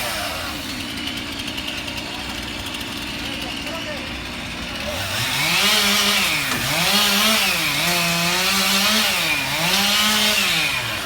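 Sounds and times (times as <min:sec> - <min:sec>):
chainsaw at full throttle: 0:00.0 - 0:11.0.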